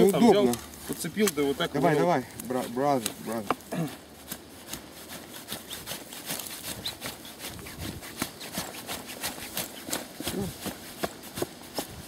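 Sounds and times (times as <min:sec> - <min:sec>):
hand tool digging soil: 0:00.0 - 0:12.0.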